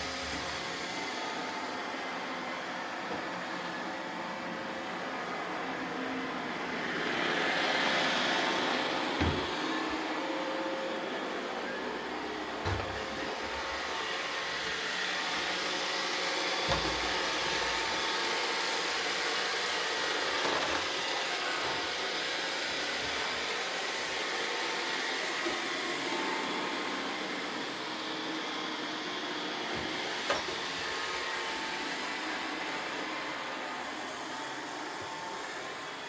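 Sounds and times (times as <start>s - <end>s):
robot vacuums whirring: 0.0s - 36.0s.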